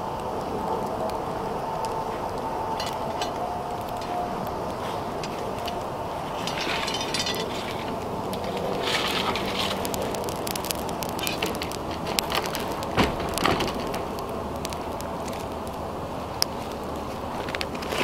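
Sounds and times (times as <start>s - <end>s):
fire crackling and popping: 0.0s - 18.0s
fire rushing flame: 0.0s - 18.0s.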